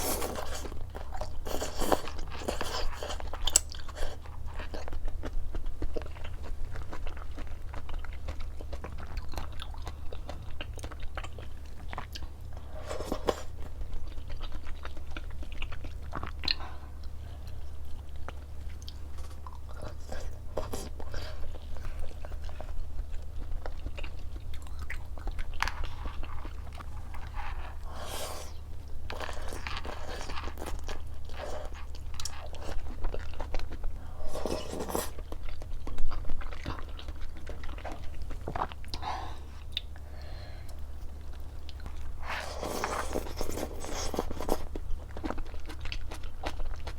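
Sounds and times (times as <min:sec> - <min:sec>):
crunching and chewing crispy food: 0:00.0 - 0:46.9
steady low hum: 0:00.0 - 0:46.9.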